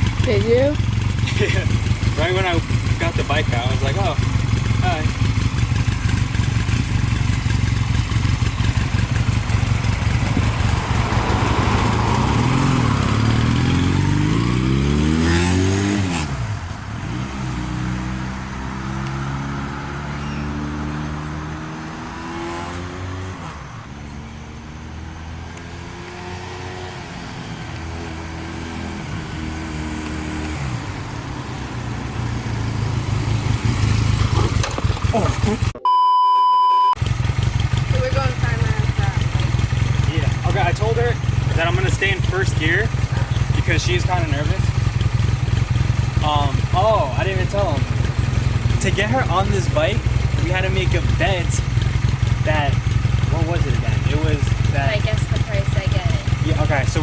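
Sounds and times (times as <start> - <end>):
motorcycle engine accelerating: 0.0 - 35.8, 36.9 - 57.0.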